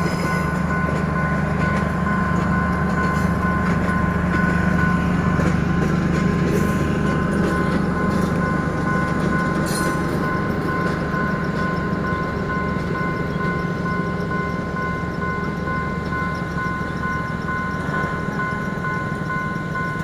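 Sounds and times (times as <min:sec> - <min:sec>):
crossing warning tones: 0:00.0 - 0:20.0
train rumbling past: 0:00.0 - 0:20.0.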